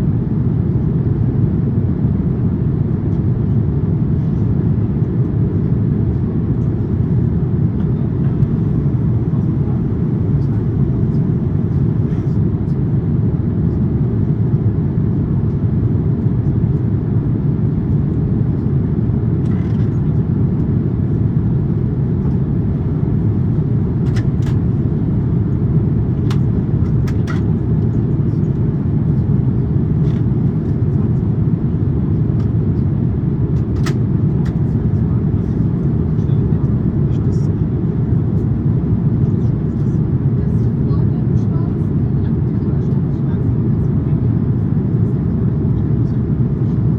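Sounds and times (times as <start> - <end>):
airplane cabin engine noise: 0.0 - 46.9.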